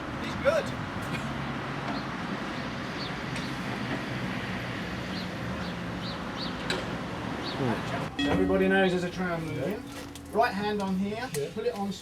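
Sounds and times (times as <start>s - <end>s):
outdoor background noise: 0.0s - 12.0s
electric tram humming: 0.8s - 11.3s.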